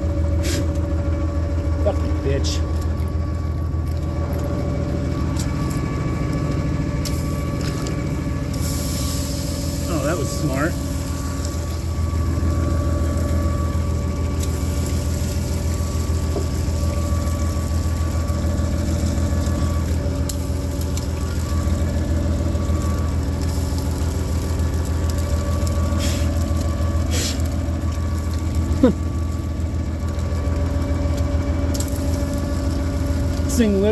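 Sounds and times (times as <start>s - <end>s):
heavy machine engine humming: 0.0s - 33.9s.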